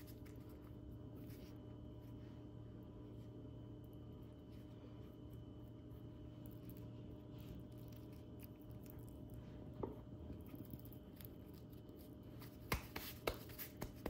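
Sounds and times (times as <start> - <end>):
pastry rustling: 0.0 - 14.0
steady low hum: 0.0 - 14.0.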